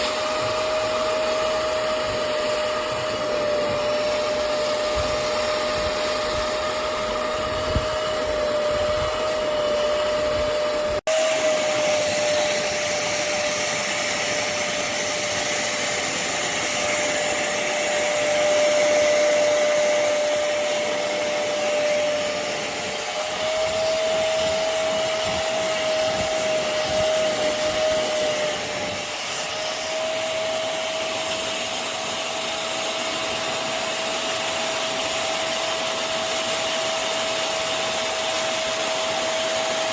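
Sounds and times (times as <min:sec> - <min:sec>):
spot cleaner suction motor whirring: 0:00.0 - 0:39.9.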